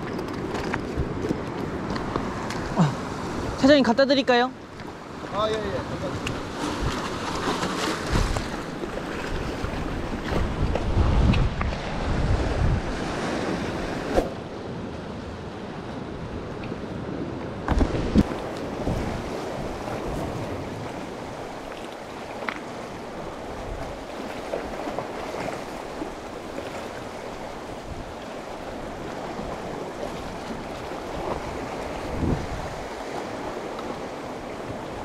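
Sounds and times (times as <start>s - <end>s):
sea waves washing against rocks: 0.0s - 35.0s
wind on microphone: 5.9s - 35.0s.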